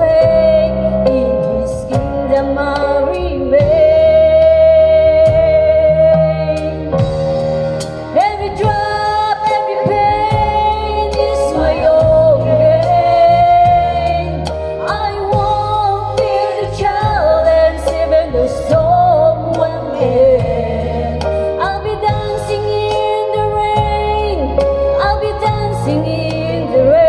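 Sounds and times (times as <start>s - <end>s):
woman singing slow song: 0.0s - 7.4s, 8.1s - 27.0s
instrumental backing track: 0.0s - 27.0s.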